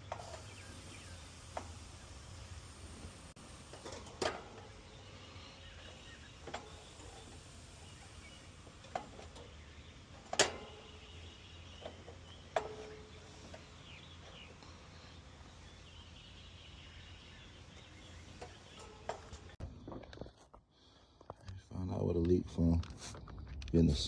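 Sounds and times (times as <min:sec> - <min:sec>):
low background hum: 0:00.0 - 0:20.2.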